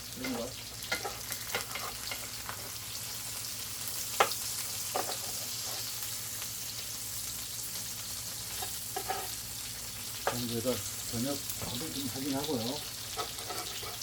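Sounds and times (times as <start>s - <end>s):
tofu sizzling in a pan: 0.0s - 14.0s.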